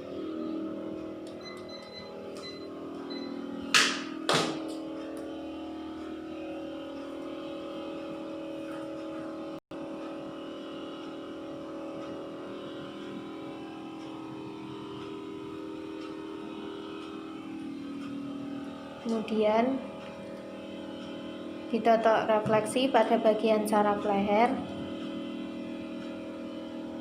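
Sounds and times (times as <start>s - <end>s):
steady machine-like hum: 0.0s - 27.0s.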